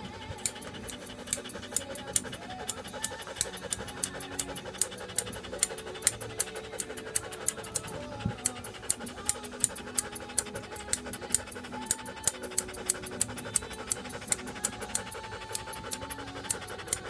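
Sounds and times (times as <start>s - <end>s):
scissors snipping hair: 0.3s - 17.0s.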